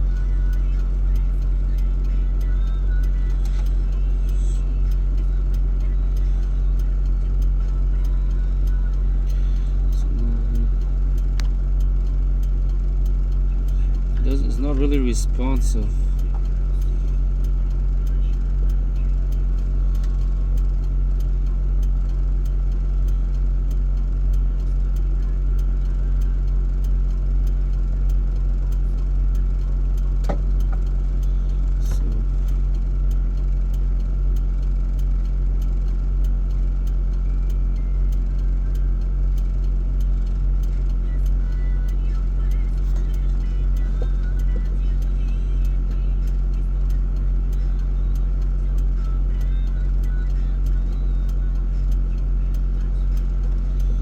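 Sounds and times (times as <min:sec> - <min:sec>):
faint ticking: 0:00.0 - 0:54.0
steady low hum: 0:00.0 - 0:54.0.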